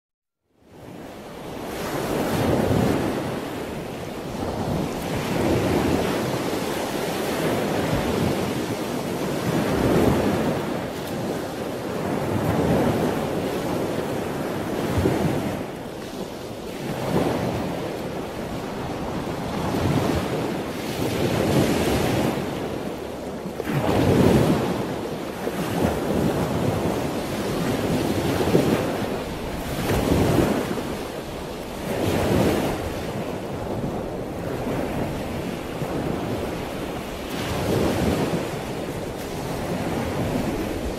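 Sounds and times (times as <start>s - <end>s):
ocean waves breaking: 0.6s - 40.9s.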